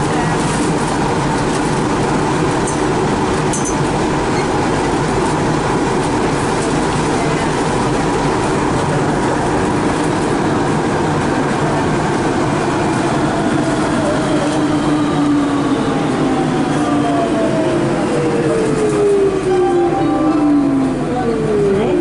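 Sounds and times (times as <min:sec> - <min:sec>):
metro train interior running noise: 0:00.0 - 0:22.0.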